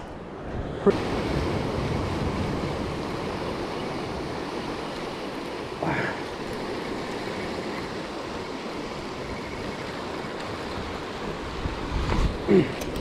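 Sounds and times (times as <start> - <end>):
surf breaking over rocks: 0.8 - 13.0.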